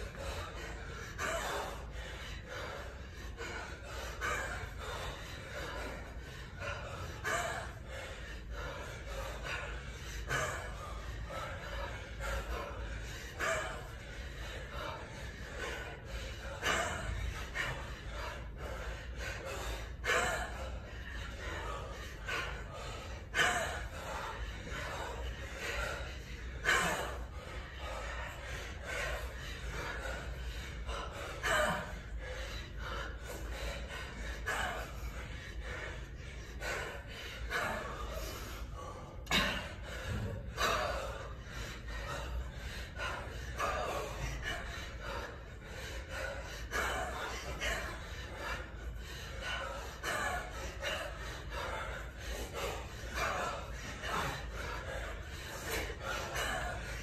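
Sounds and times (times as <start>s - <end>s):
man breathing heavily: 0.0s - 57.0s.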